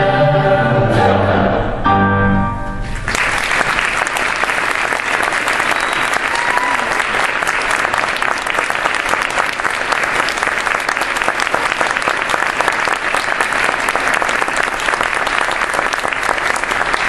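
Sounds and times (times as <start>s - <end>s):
audience applauding: 2.9s - 17.0s.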